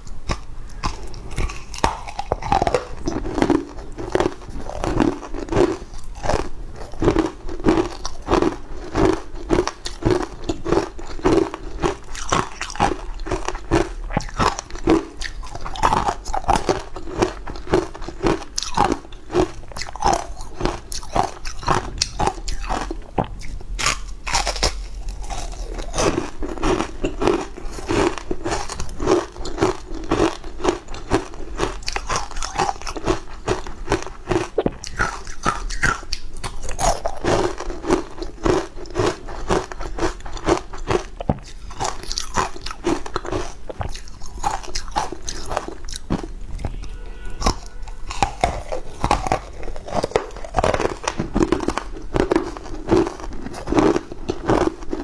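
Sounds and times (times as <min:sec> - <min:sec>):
chewing and crunching cake: 0:00.0 - 0:55.0.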